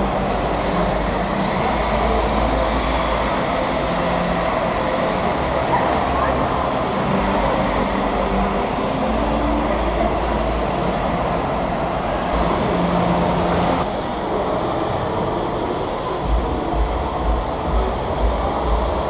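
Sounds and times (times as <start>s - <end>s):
faint motor whine: 0.0s - 19.0s
model truck running with low rumble: 0.0s - 19.0s.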